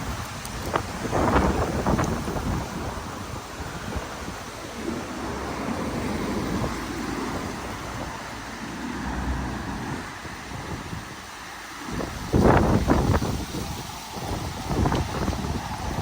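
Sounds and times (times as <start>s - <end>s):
road traffic going by: 0.0s - 16.0s
wind buffeting microphone: 0.0s - 16.0s.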